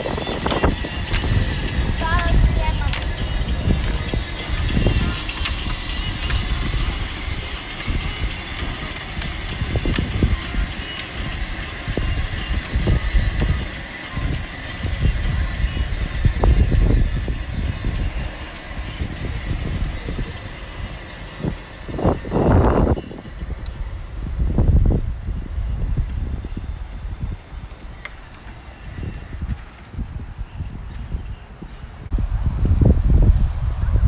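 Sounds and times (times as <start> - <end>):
toy car motor whine: 0.0 - 31.4
plastic wheels rumbling on road: 0.0 - 34.0.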